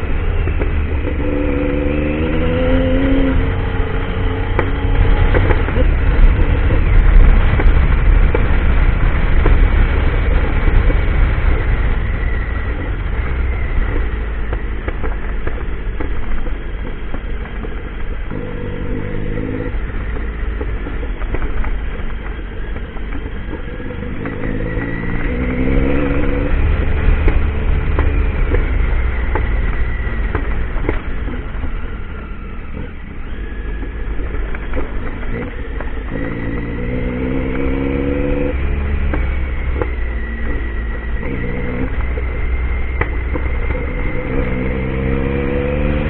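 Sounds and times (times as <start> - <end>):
low rumble on microphone: 0.0 - 46.0
motorcycle engine revving: 0.0 - 46.0.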